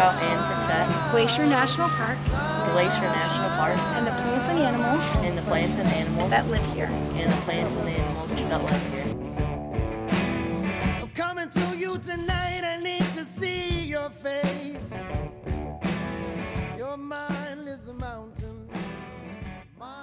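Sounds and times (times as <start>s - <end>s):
song with guitar and singing: 0.0s - 20.0s.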